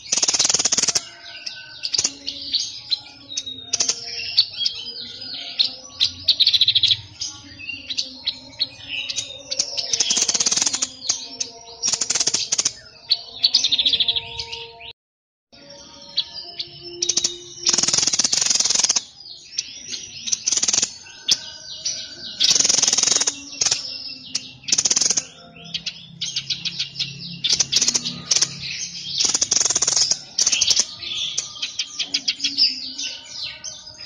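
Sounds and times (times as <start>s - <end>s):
songbird singing rasping trills: 0.0s - 15.0s, 15.6s - 34.0s.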